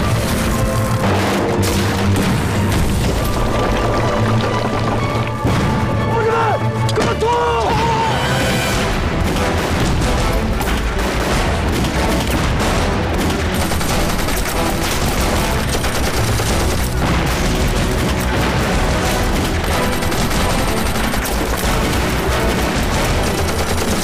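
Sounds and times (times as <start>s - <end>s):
rifle and machine-gun fire: 0.0s - 5.0s, 8.9s - 24.0s
dramatic film score: 0.0s - 24.0s.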